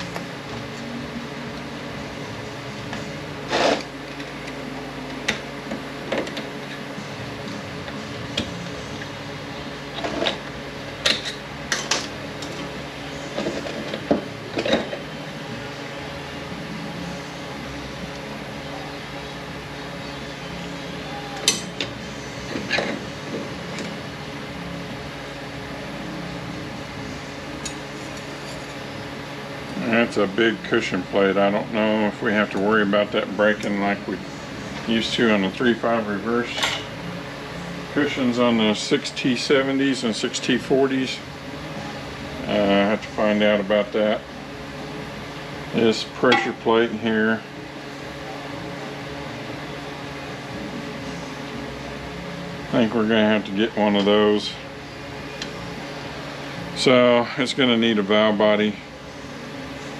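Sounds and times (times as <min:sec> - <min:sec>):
steady fan hum: 0:00.0 - 0:59.9.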